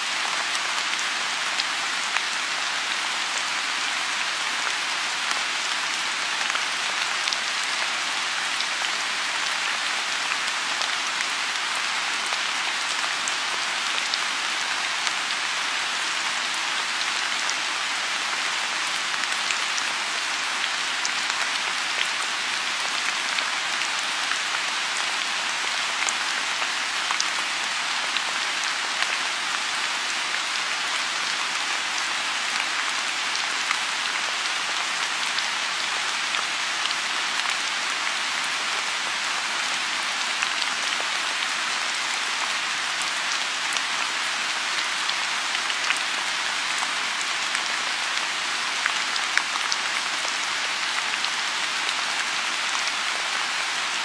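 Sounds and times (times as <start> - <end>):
rain falling on pond: 0.0 - 54.0.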